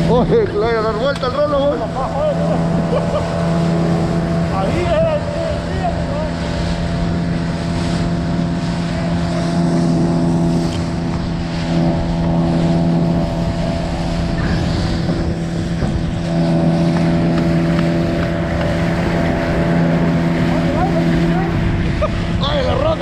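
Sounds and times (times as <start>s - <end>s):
outboard motor droning: 0.0s - 23.0s.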